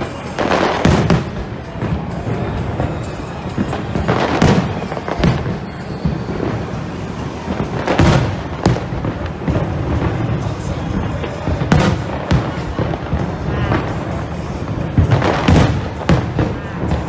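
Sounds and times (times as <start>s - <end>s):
background music: 0.0s - 17.0s
fireworks bangs: 0.0s - 17.0s.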